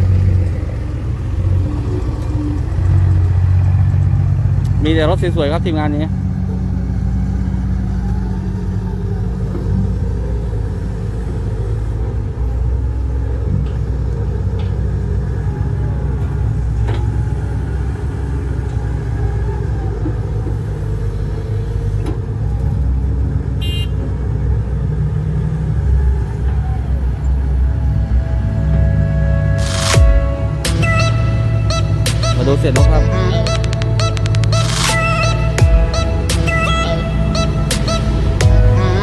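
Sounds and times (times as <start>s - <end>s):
heavy diesel engines running: 0.0s - 39.0s.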